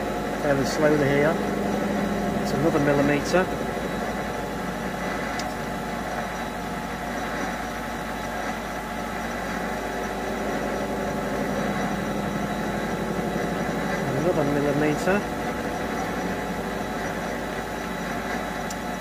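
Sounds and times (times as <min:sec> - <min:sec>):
lathe motor humming: 0:00.0 - 0:19.0.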